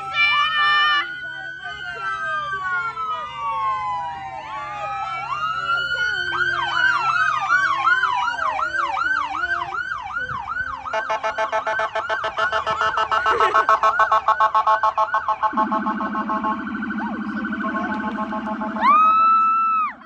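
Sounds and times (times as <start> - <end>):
emergency vehicle sirens: 0.0 - 20.0.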